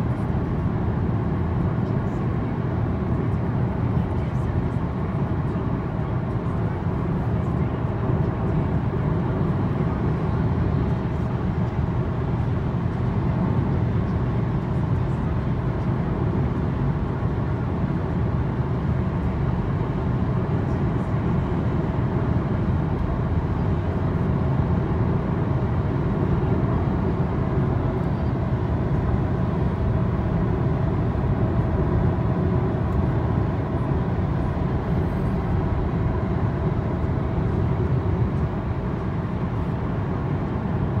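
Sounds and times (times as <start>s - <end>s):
engine hum: 0.0s - 41.0s.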